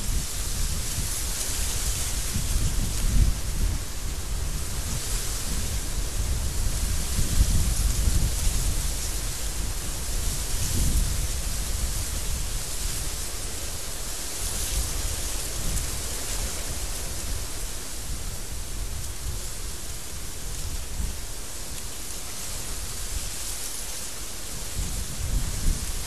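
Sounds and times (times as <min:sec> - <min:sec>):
windstorm blowing hard: 0:00.0 - 0:26.0.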